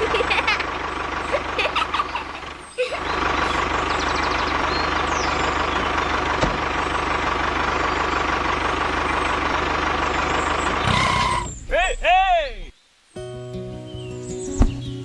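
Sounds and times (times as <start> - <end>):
vehicle engine idling: 0.0 - 12.7.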